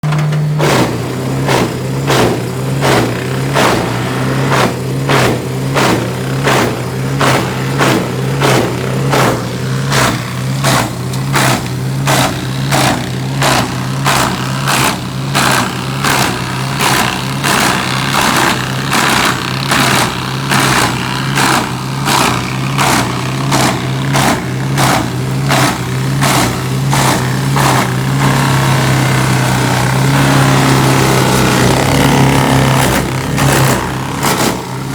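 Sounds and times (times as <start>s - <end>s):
regular mechanical knocks: 0.0s - 34.9s
wood-processing machine engine running: 0.0s - 34.9s.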